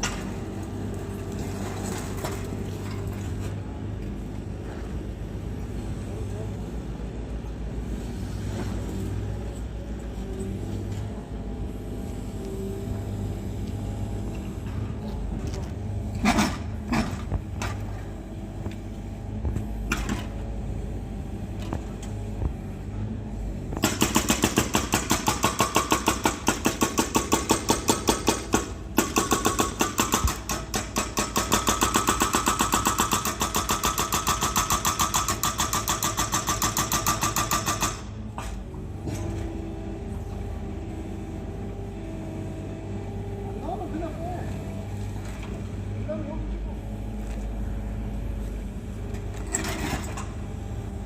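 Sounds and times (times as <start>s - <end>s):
excavator engine running: 0.0s - 51.0s.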